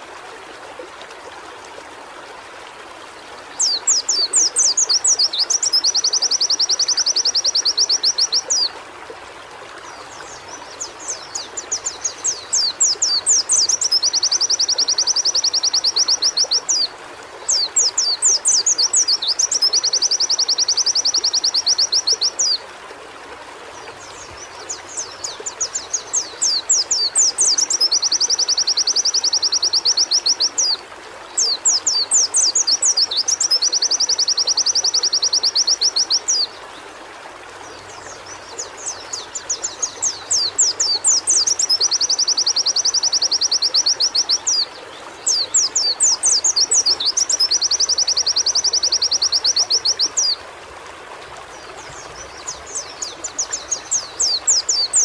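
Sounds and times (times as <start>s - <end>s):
faint running water: 0.0s - 55.0s.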